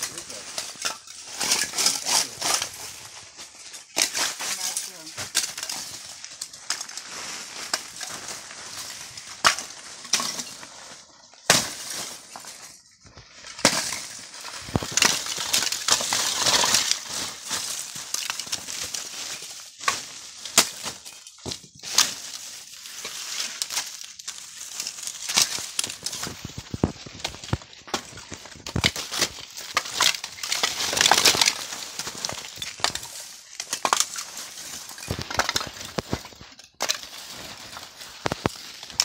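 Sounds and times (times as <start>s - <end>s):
charcoal lumps clinking and rattling: 0.0s - 12.8s, 13.4s - 39.0s.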